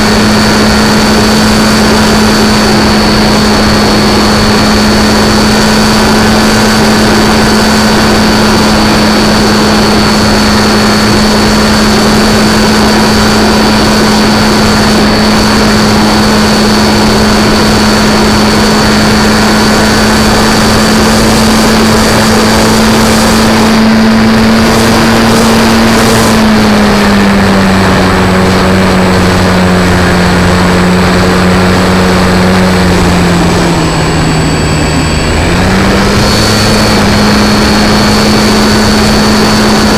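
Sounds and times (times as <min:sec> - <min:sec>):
model airplane motor and propeller: 0:00.0 - 0:39.9
rush of air: 0:00.0 - 0:39.9.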